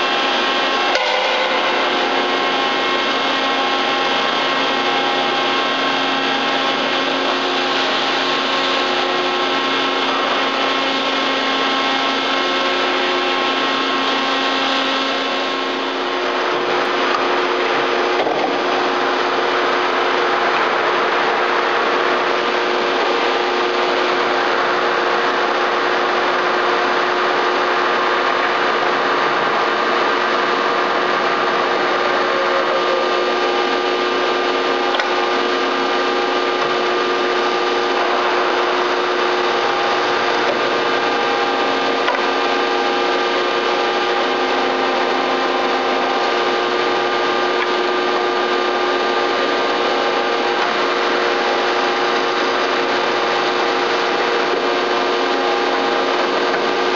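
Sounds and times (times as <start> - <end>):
lathe machine humming: 0.0 - 56.9.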